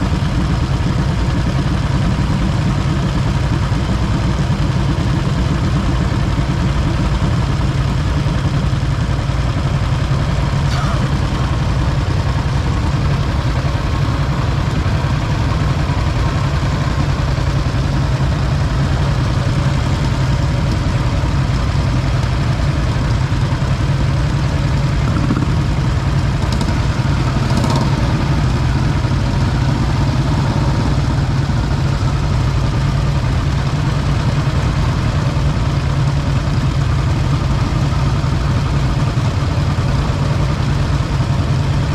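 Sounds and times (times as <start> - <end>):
motorcycle engine droning: 0.0 - 41.9.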